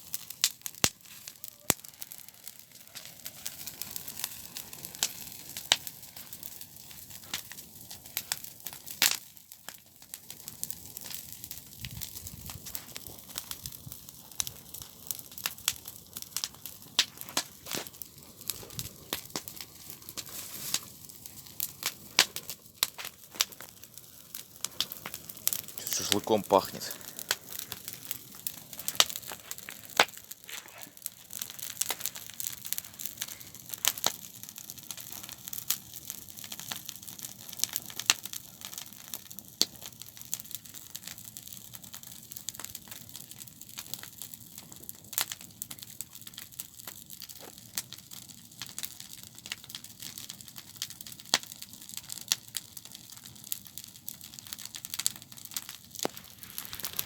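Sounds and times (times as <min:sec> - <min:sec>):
campfire crackling and popping: 0:00.0 - 0:57.0
hiss of burning fire: 0:00.0 - 0:57.0.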